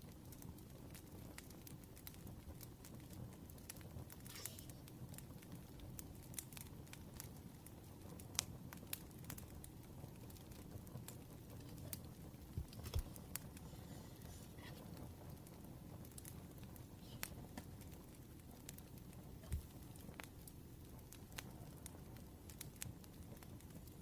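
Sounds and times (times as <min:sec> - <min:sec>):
wood fire crackling and popping: 0:00.0 - 0:24.0
low steady rumble: 0:00.7 - 0:24.0.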